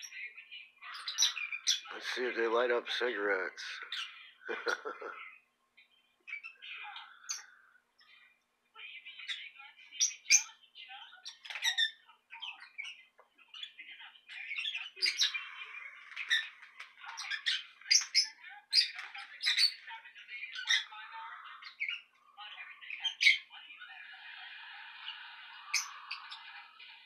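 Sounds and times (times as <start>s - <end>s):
parrots chirping and squawking: 0.0s - 5.4s, 6.3s - 8.2s, 9.2s - 27.0s.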